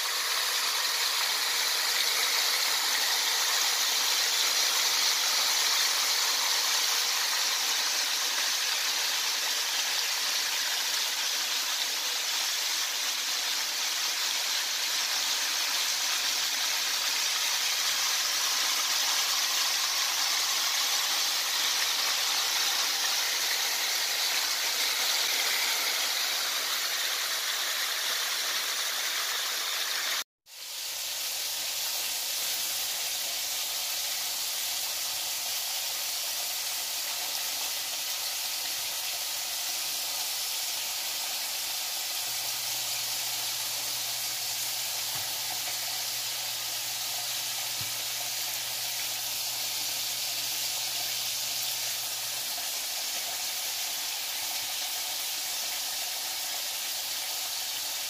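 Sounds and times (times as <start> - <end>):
chicken deep-frying in hot oil: 0.0 - 58.0.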